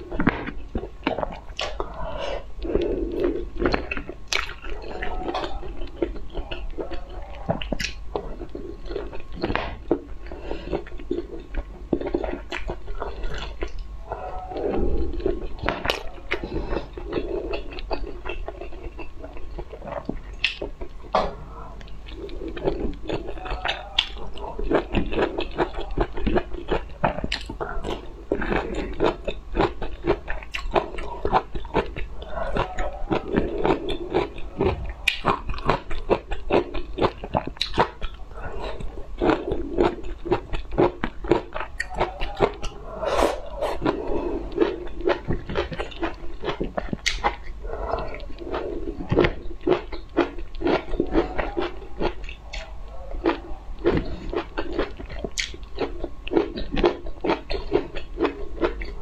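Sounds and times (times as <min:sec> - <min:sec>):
chewing and crunching broccoli: 0:00.0 - 0:59.0.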